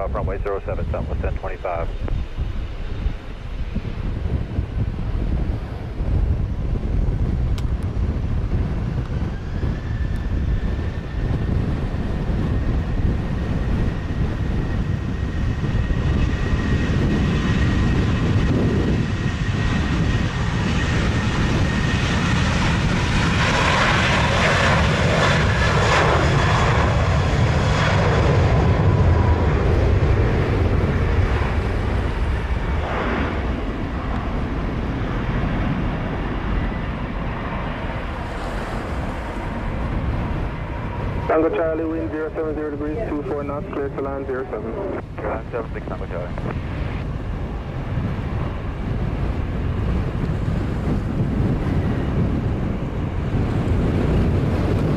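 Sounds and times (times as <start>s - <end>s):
jet engines at takeoff thrust: 0.0s - 54.9s.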